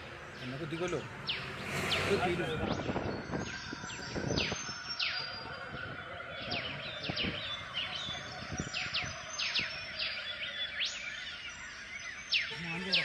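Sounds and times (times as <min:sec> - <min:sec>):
birds calling with downward sweeps: 0:00.0 - 0:13.0.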